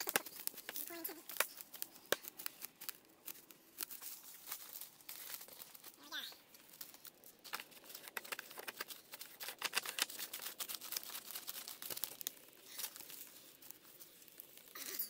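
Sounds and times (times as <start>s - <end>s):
plastic threads scratching and clicking: 0.0s - 15.0s.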